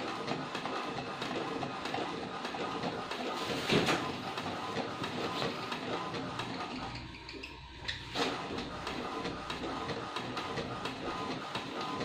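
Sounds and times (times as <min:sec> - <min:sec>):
printer clatter: 0:00.0 - 0:12.0
printer whirring and clicking: 0:00.0 - 0:12.0.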